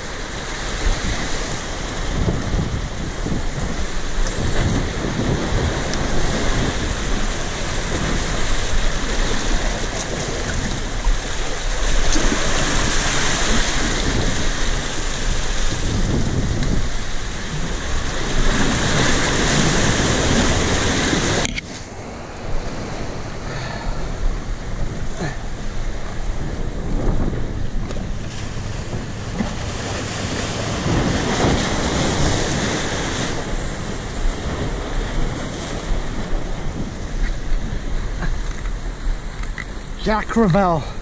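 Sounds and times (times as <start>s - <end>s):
surf washing among boulders: 0.0s - 41.0s
wind rumbling on microphone: 0.0s - 41.0s.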